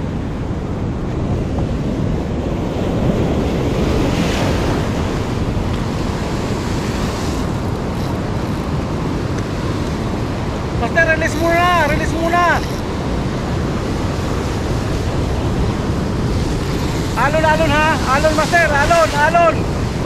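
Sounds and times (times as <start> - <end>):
wind buffeting microphone: 0.0 - 20.0
surf breaking over rocks: 1.5 - 20.0.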